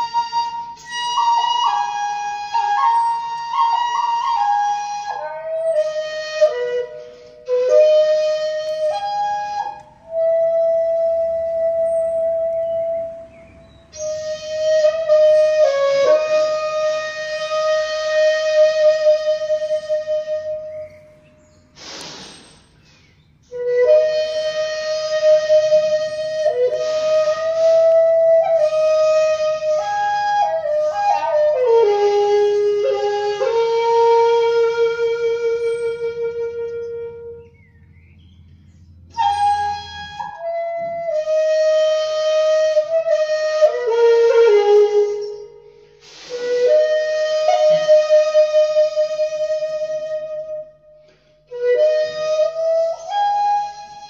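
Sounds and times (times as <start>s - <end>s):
bamboo flute playing solo: 0.0s - 54.0s.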